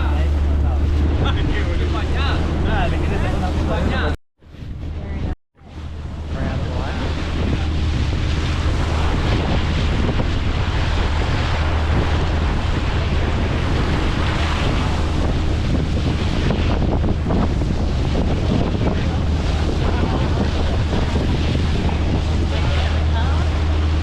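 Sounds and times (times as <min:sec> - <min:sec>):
boat engine hum: 0:00.0 - 0:24.0
rushing water: 0:00.0 - 0:24.0
wind buffeting microphone: 0:00.0 - 0:24.0.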